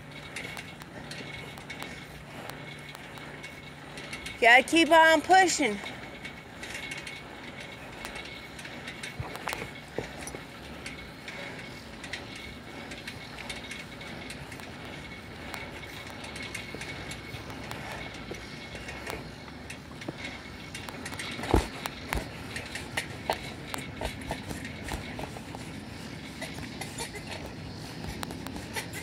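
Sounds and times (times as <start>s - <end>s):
bicycle chain ticking and rattling: 0.0s - 29.0s
bicycle rolling on asphalt: 0.0s - 29.0s.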